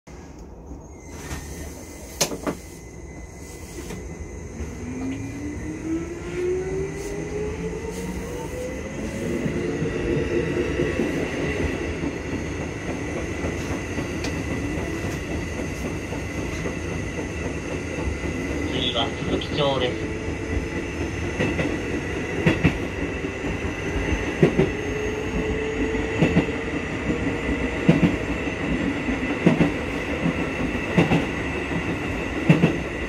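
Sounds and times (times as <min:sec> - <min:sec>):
train wheel and running noise: 0:00.1 - 0:33.0.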